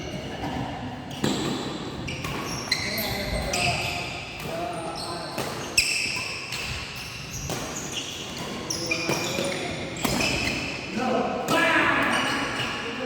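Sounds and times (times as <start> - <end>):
shoes squeaking on court floor: 0.0 - 10.9.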